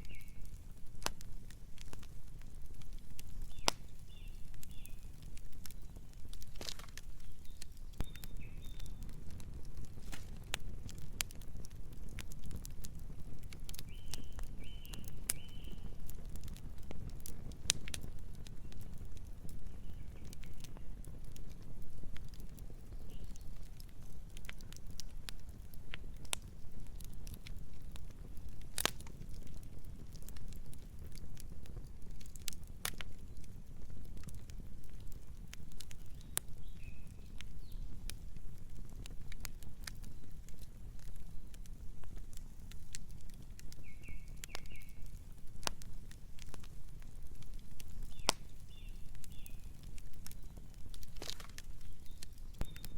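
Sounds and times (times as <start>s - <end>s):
campfire crackling: 0.0s - 52.9s
low rumble of flames: 0.0s - 52.9s.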